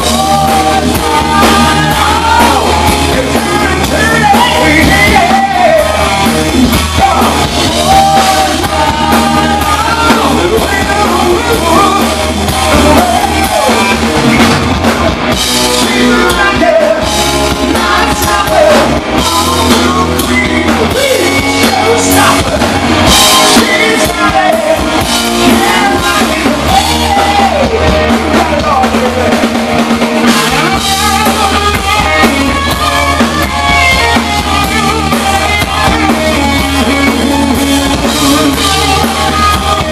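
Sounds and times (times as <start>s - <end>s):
bass guitar: 0.0s - 39.9s
distorted electric guitars: 0.0s - 39.9s
drum kit: 0.0s - 39.9s
lead singer: 0.0s - 39.9s.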